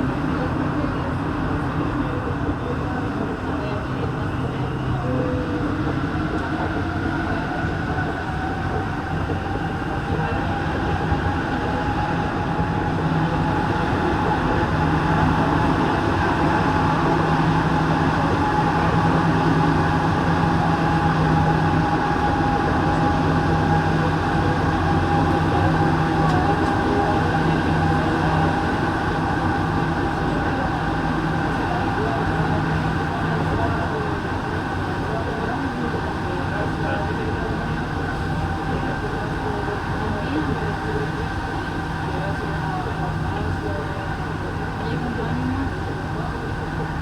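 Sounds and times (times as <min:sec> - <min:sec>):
train rolling noise with hum and whine: 0:00.0 - 0:47.0.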